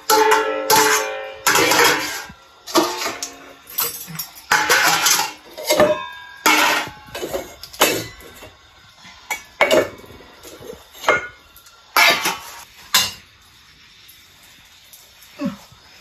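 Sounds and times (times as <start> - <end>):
metal bowls and plates clanking: 0.0 - 13.3.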